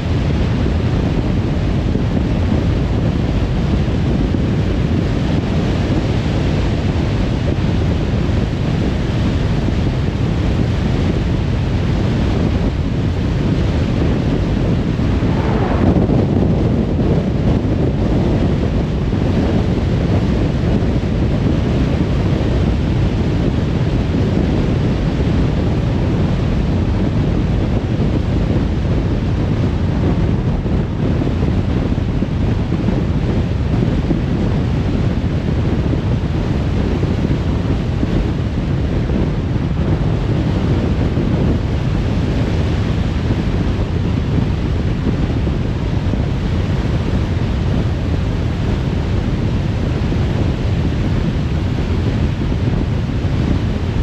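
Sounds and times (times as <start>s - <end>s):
tyre and wind rush: 0.0s - 54.0s.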